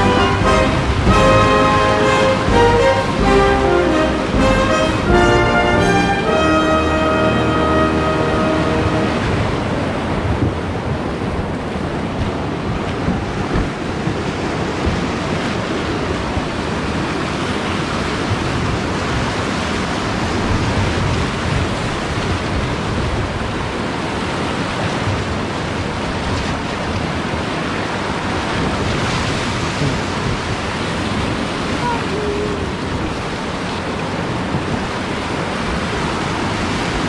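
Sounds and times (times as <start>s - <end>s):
whitewater rapids rushing: 0.0s - 37.0s.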